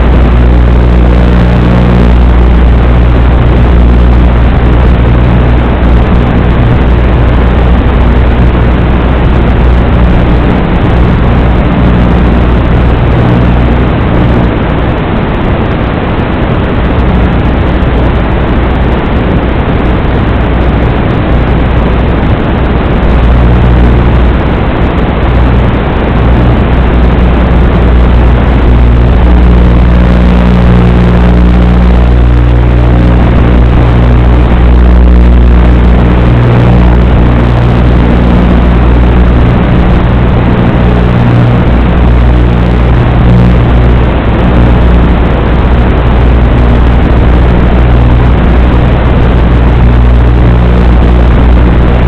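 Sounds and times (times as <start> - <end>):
drone motors and propellers: 0.0 - 52.0.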